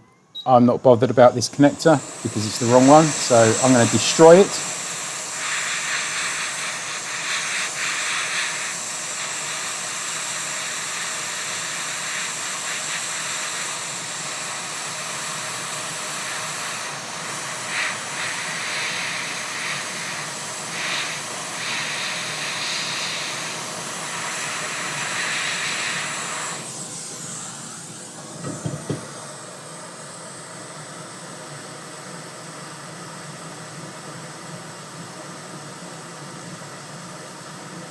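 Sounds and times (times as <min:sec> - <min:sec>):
heat gun blowing hiss: 0:00.4 - 0:37.9.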